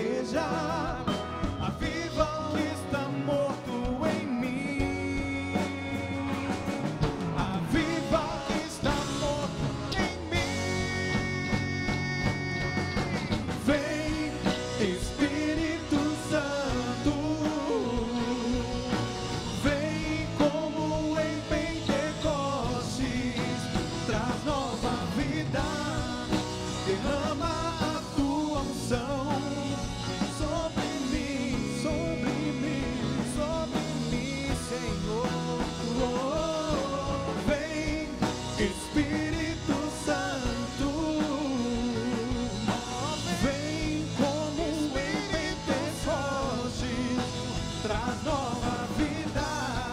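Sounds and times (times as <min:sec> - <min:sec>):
person singing with band: 0:00.0 - 0:49.9.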